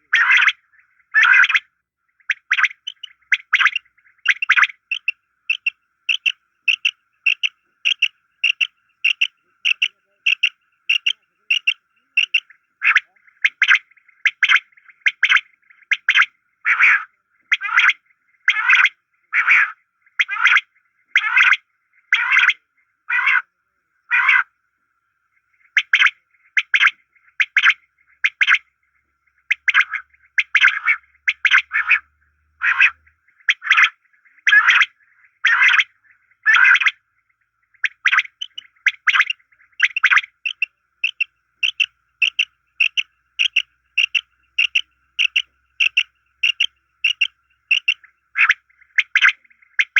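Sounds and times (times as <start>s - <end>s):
quail calls: 0.0s - 23.5s, 24.1s - 24.5s, 25.6s - 28.6s, 29.4s - 37.0s, 37.7s - 49.9s.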